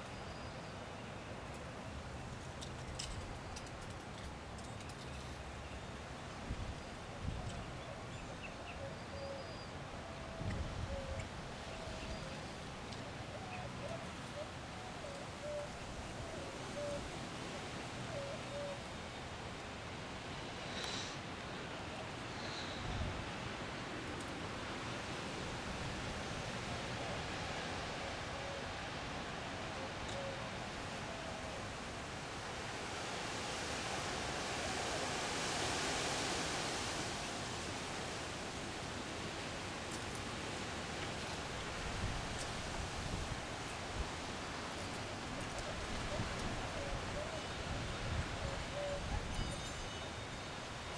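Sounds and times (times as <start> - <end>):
wind rustling through tree: 0.0 - 50.9.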